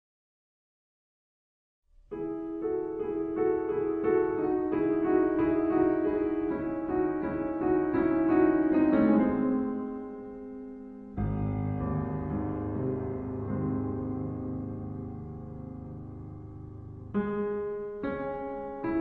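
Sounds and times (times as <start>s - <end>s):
slowed-down piano music: 2.0s - 19.0s.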